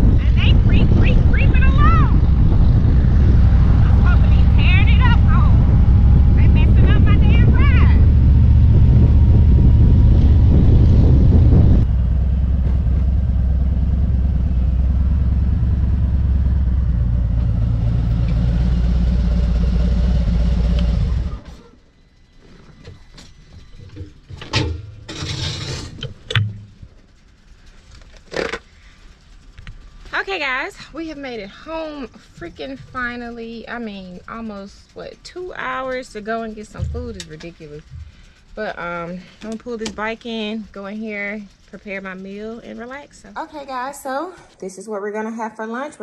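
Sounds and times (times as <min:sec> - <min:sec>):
motorcycle engine running: 0:00.0 - 0:44.6.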